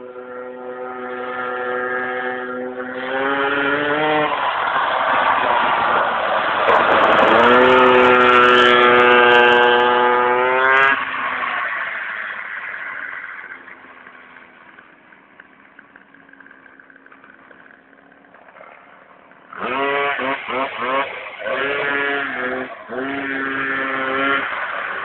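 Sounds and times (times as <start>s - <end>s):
minibike engine revving: 0.0s - 25.0s.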